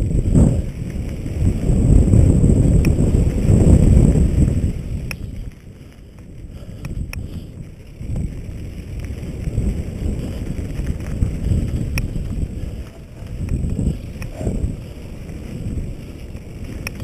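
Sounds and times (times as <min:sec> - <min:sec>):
bike clicks and rattles: 0:00.0 - 0:17.0
tyres rumbling on dirt: 0:00.0 - 0:17.0
wind buffeting microphone: 0:00.0 - 0:17.0.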